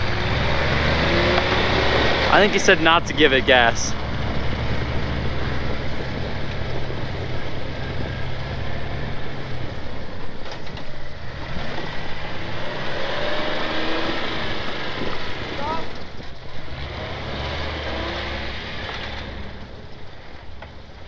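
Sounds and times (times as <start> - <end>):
vehicle engine running: 0.0 - 21.0
vehicle travelling over snow: 0.0 - 21.0.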